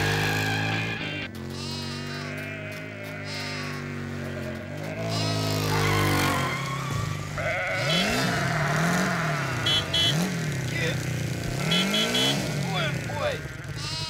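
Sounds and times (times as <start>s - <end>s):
motorcycle engine revving: 0.0s - 14.0s
sheep bleating: 0.0s - 14.0s.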